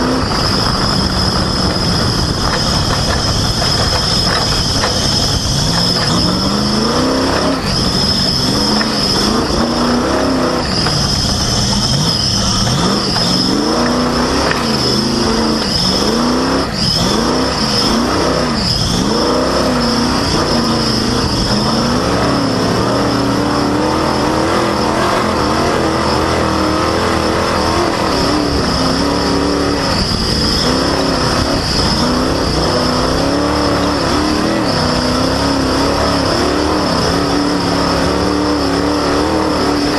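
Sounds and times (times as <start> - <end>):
race engine revving: 0.0 - 39.9
rushing noise: 0.0 - 39.9
squeaky drive belt squeal: 0.0 - 39.9.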